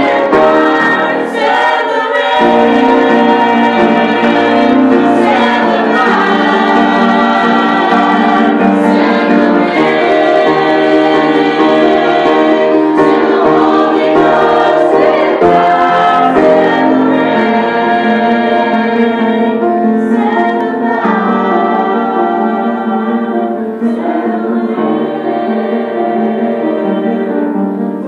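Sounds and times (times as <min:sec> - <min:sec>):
vocal group singing gospel: 0:00.0 - 0:28.0.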